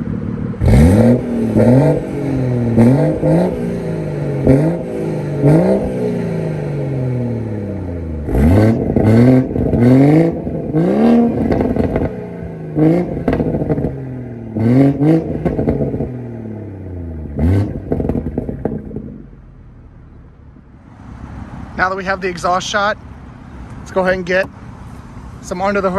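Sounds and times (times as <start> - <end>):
car engine revving: 0.0 - 25.9.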